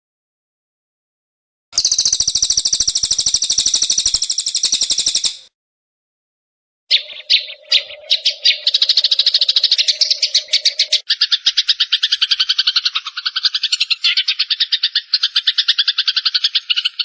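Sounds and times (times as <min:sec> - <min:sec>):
songbird trilling: 0:01.8 - 0:05.5, 0:06.9 - 0:17.0.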